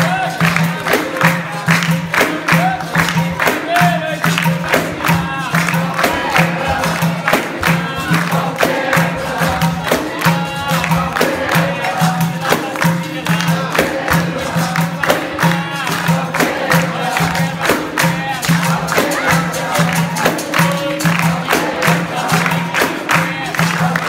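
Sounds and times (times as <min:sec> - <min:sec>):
jingly percussion strikes: 0:00.0 - 0:24.0
voices singing: 0:00.0 - 0:24.0.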